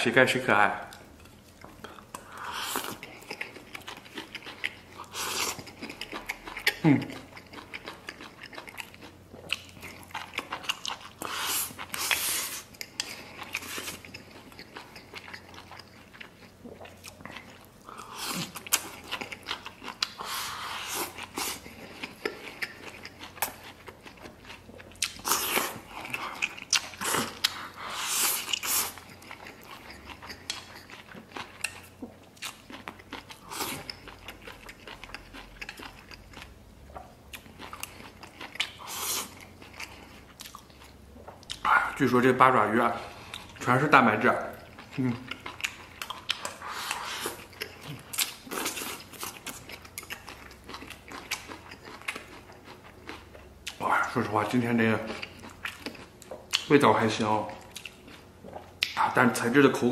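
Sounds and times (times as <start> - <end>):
chewing food: 0.9 - 59.9.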